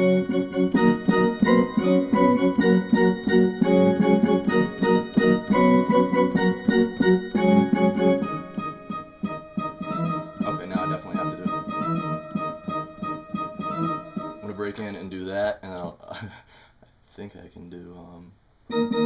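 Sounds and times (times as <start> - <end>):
electronic keyboard chords: 0.0 - 15.1, 18.7 - 19.0.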